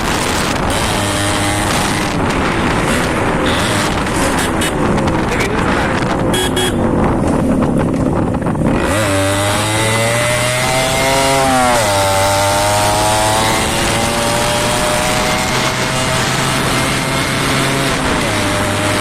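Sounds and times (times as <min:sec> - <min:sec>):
two-stroke motorcycle engine buzzing: 0:00.0 - 0:05.2, 0:06.2 - 0:07.3, 0:07.9 - 0:19.0.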